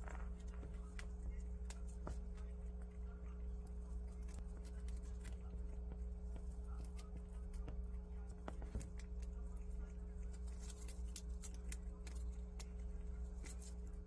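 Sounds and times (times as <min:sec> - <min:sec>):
animal chewing crisp leaves: 0:00.0 - 0:14.0
steady low hum: 0:00.0 - 0:14.0.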